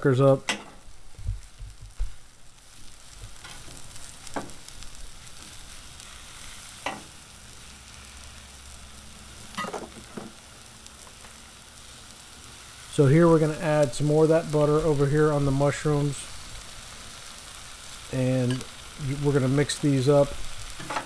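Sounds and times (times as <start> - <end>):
vegetables sizzling on a griddle: 0.0 - 21.0.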